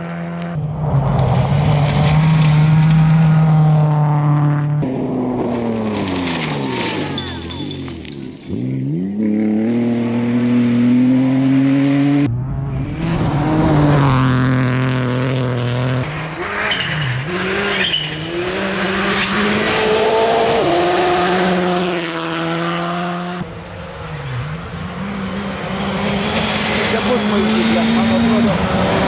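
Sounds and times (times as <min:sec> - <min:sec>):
car accelerating and shifting up: 0:00.0 - 0:29.0
rally car engine revving: 0:00.0 - 0:29.0.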